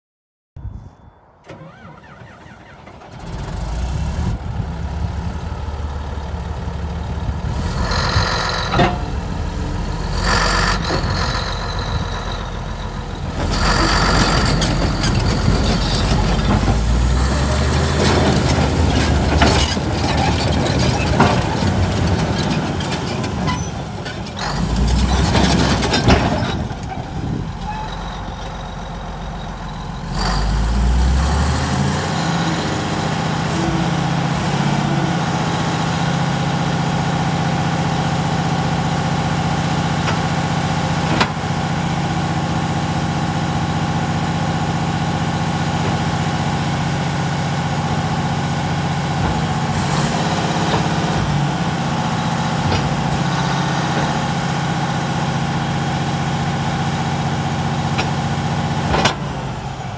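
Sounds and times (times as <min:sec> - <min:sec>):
diesel engine revving: 0:01.4 - 0:59.9.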